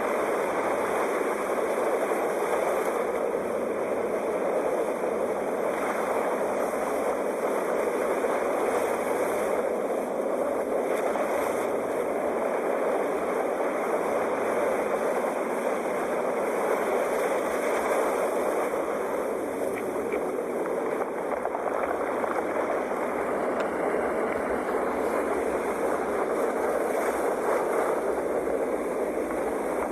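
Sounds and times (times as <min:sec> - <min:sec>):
sea waves breaking on shore: 0:00.0 - 0:29.9.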